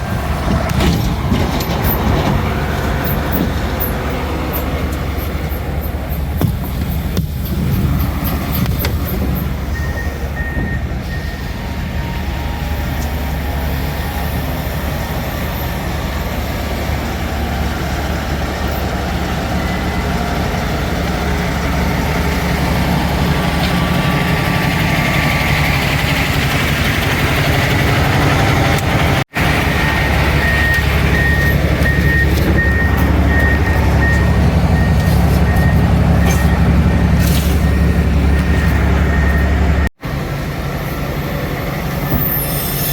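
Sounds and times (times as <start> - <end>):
dump truck engine drone: 0.0 - 42.9.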